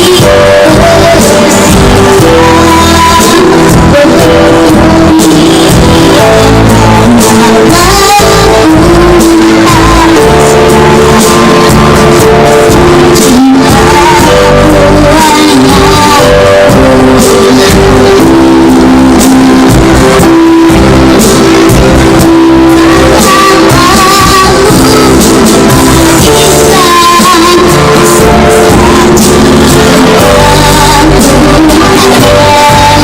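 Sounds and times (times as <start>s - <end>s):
child singing: 0.0s - 19.7s, 21.6s - 33.0s
loud music accompaniment: 0.0s - 33.0s.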